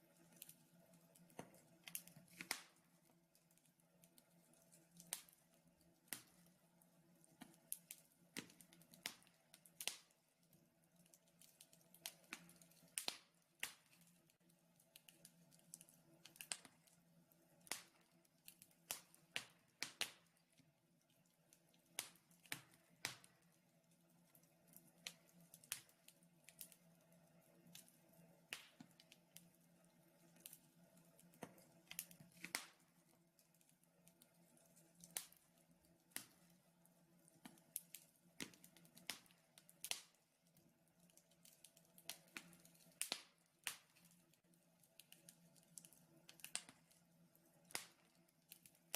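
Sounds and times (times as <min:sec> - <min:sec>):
wood fire crackling: 0:00.0 - 0:48.9
burning logs popping: 0:00.2 - 0:03.0, 0:03.6 - 0:20.5, 0:21.2 - 0:23.5, 0:24.2 - 0:36.6, 0:37.3 - 0:40.2, 0:41.0 - 0:47.0, 0:47.6 - 0:48.9.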